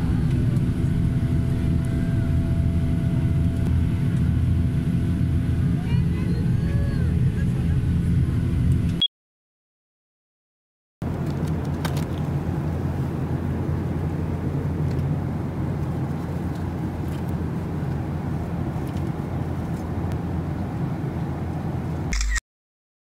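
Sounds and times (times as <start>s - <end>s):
airliner cabin rumble: 0.0s - 9.0s, 11.0s - 22.2s.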